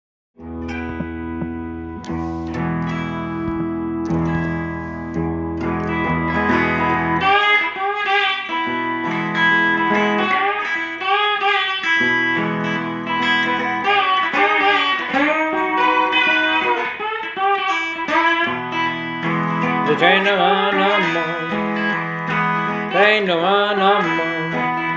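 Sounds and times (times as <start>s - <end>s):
guitar chords and bending lead: 0.4s - 24.9s.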